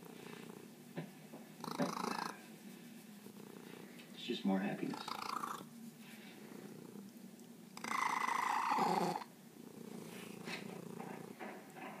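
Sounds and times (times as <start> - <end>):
cat purring: 0.0 - 11.9.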